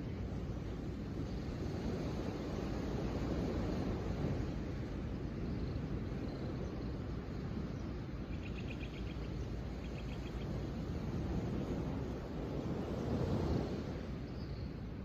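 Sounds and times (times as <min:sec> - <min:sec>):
low rushing nature ambience: 0:00.0 - 0:15.0.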